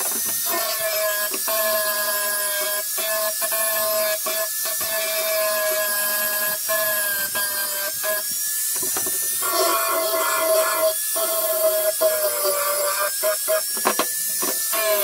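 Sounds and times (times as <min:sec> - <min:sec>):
angle grinder grinding metal: 0:00.0 - 0:15.0.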